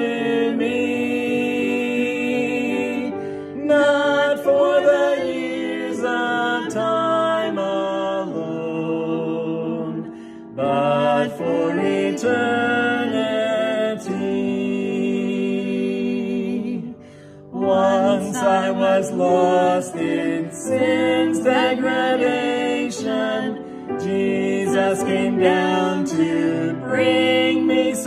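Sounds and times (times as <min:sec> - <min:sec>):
man and woman singing a hymn: 0:00.0 - 0:28.0.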